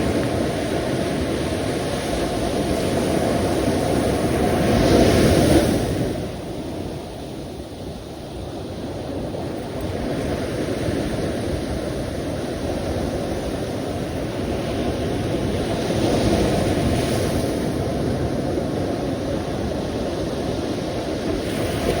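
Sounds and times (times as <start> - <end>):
sea waves breaking: 0.0 - 7.2, 8.4 - 22.0.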